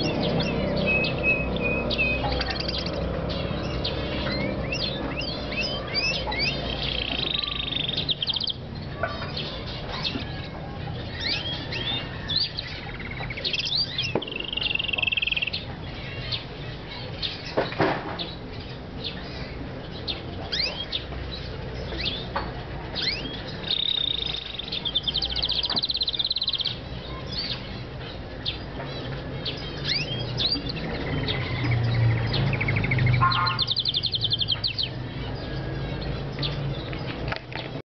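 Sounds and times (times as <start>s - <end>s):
canary singing: 0.0s - 37.8s.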